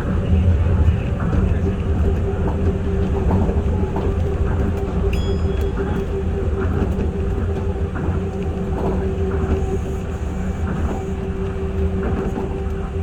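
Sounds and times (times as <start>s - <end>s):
monorail train rumbling: 0.0s - 13.0s.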